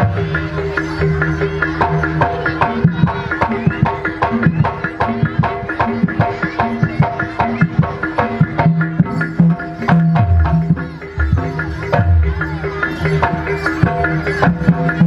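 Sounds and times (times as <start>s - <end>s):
hand drums playing fast rhythm: 0.0s - 15.0s.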